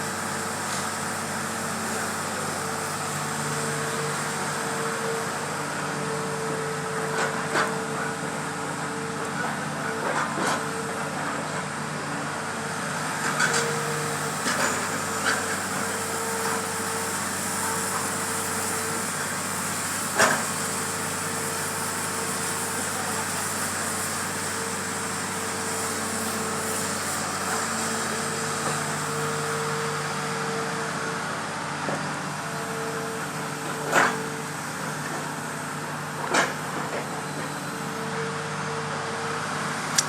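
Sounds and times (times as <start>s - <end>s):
excavator engine drone: 0.0s - 40.0s.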